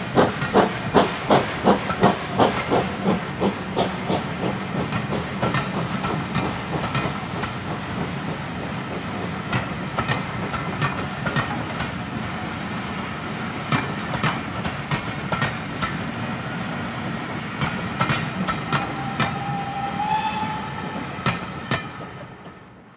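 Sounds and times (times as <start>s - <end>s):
train wheels clicking over rail joints: 0.0s - 16.3s, 17.5s - 19.8s, 21.1s - 22.9s
train rumble: 0.0s - 22.9s.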